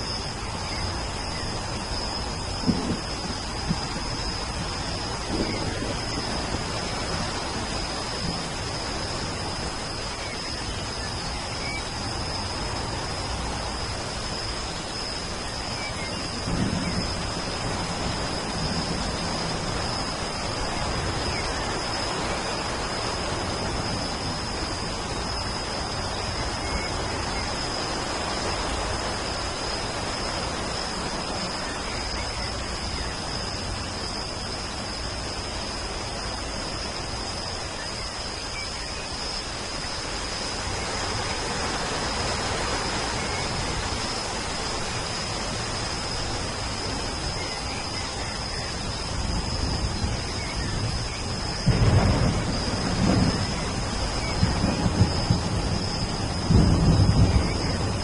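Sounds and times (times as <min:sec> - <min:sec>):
steady rainfall: 0:00.0 - 0:58.0
low rumble of thunder: 0:00.2 - 0:58.0.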